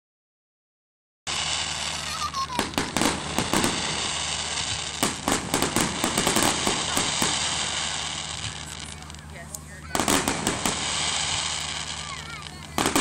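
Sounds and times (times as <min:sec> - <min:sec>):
fireworks cracking and popping: 0:01.3 - 0:13.0.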